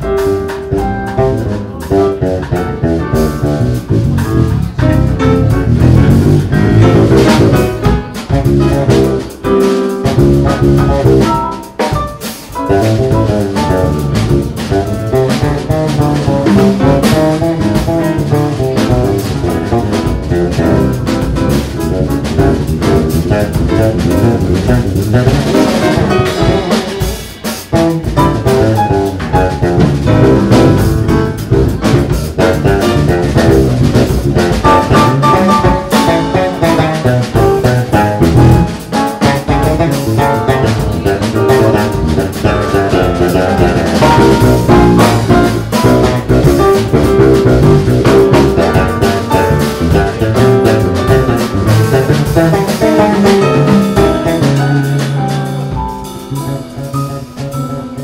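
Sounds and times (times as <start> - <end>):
drum kit: 0.0 - 58.0
electric bass: 0.0 - 58.0
piano: 0.0 - 58.0.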